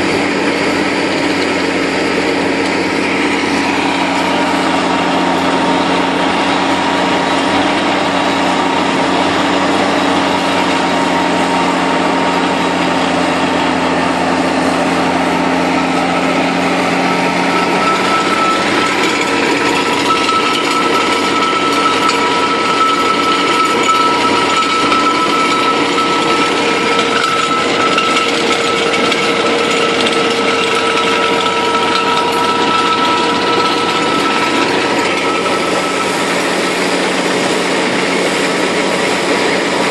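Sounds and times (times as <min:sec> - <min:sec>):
high steady whine: 0:00.0 - 0:39.9
slurry mixer churning: 0:00.0 - 0:39.9
tractor engine running under load: 0:00.0 - 0:39.9.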